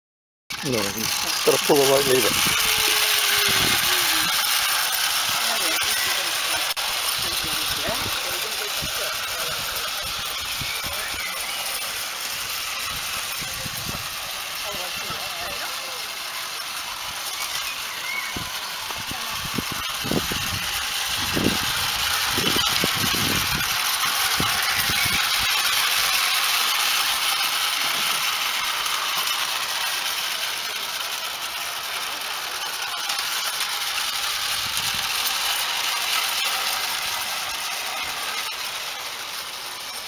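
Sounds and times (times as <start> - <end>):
model train running on rails: 0.5 - 40.0.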